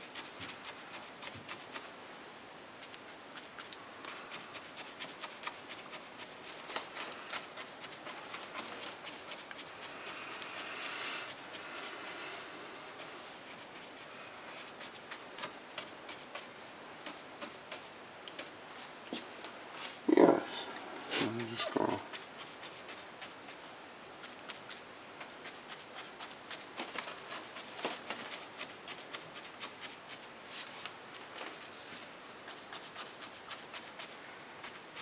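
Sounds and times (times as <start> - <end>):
brush scrubbing swish: 0.0 - 2.0, 3.4 - 18.6, 21.0 - 23.6, 24.2 - 30.9, 32.4 - 35.0.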